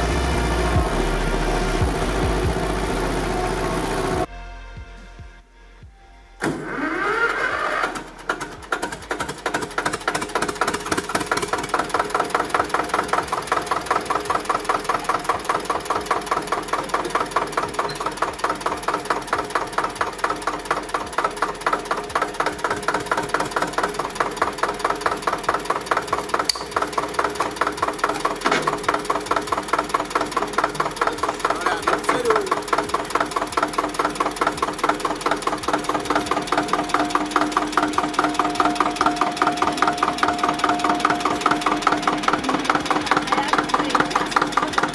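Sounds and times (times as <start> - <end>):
diesel tractor engine idling: 0.0 - 4.3, 6.4 - 44.9.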